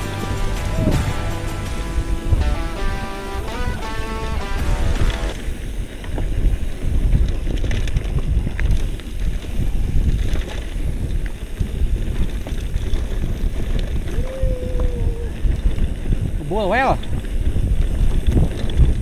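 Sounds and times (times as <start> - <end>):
bicycle rattling on rough trail: 0.0 - 19.0
wind buffeting microphone: 0.0 - 19.0.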